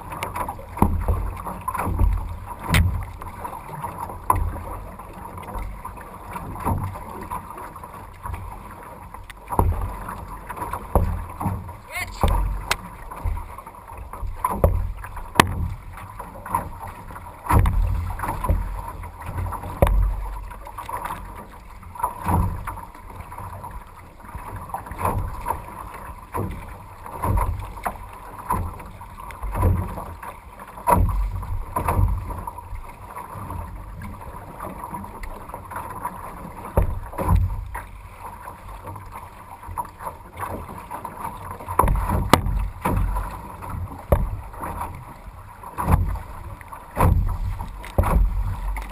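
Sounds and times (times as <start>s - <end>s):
water slapping against canoe hull: 0.0s - 48.9s.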